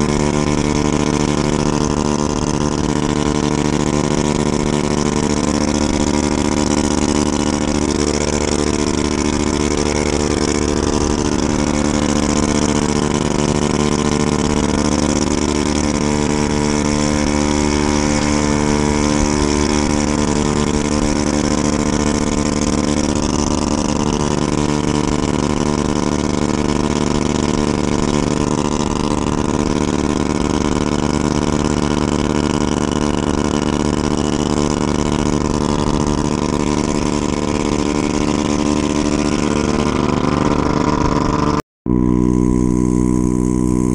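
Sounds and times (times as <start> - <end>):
scooter engine running: 0.0 - 43.9.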